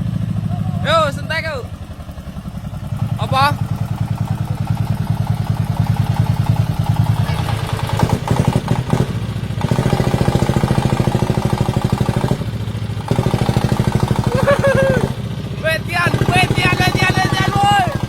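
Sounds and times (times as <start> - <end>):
diesel engine chugging: 0.0 - 18.0.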